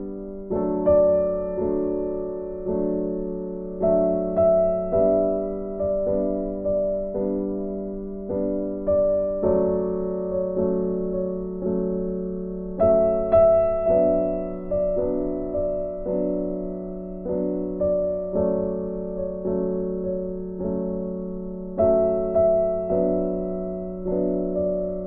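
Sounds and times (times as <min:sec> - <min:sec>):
slow gentle piano music: 0:00.0 - 0:25.0.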